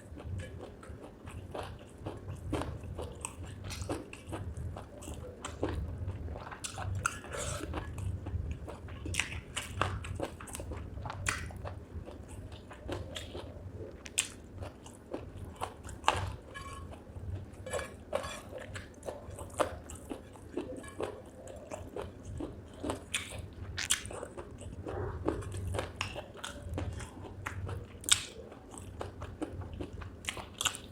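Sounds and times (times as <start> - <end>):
close-miked chewing and crunching: 0.0 - 30.9
low steady hum: 0.0 - 30.9.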